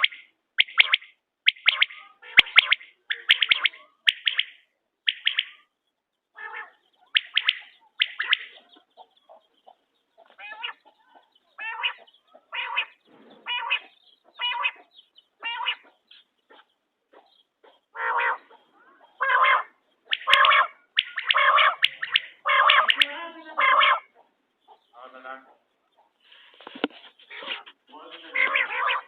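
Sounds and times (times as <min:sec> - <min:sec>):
quail calling: 0:00.0 - 0:29.0.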